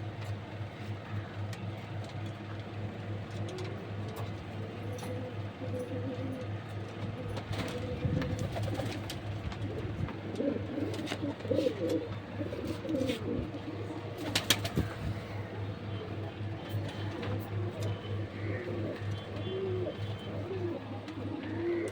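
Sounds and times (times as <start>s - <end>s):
pigeons cooing: 3.4s - 21.9s.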